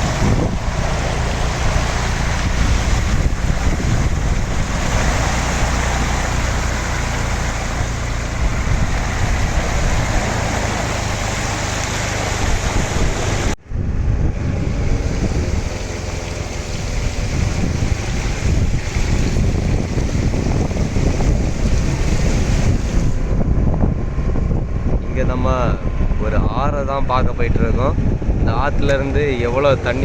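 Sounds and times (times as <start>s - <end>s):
low rumble of motorbike: 0.0s - 30.0s
wind buffeting microphone: 0.0s - 30.0s.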